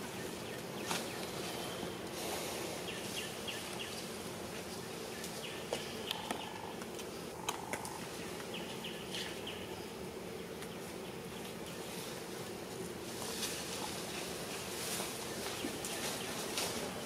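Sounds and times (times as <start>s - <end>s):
insects buzzing and chirping: 0.0s - 17.0s.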